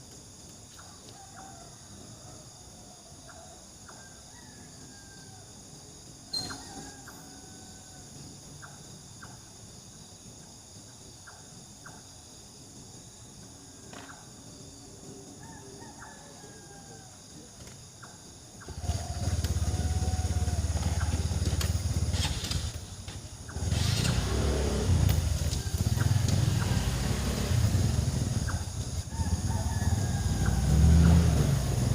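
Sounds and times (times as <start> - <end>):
insect chirps: 0.0 - 31.9
insects trilling: 0.0 - 31.9.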